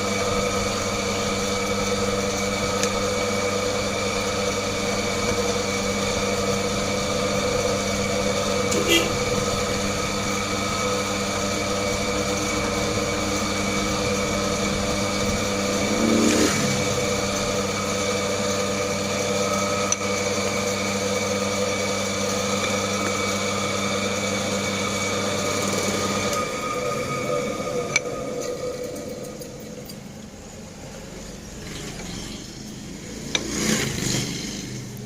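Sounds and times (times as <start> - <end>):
machine motor humming: 0.0 - 35.0.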